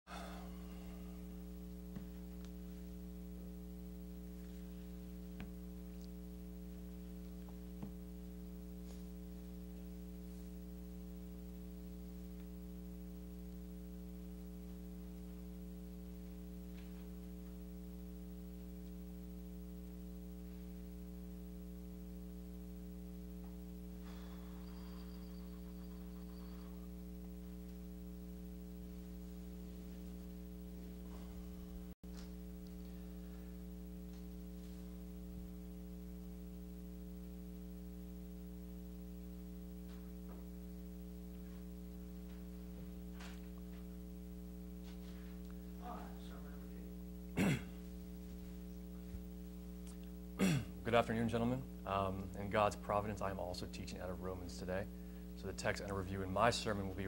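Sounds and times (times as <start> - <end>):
electrical mains hum: 0.1 - 57.0.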